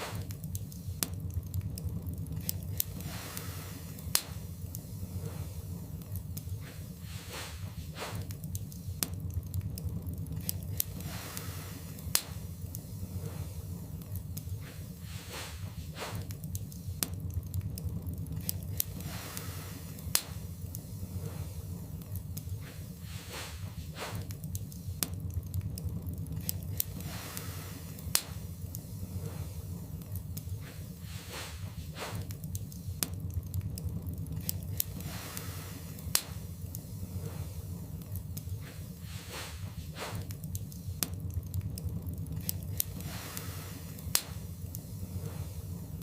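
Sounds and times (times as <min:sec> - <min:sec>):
crackles and pops from logs: 0:00.0 - 0:46.0
low rumble of flames: 0:00.0 - 0:46.0.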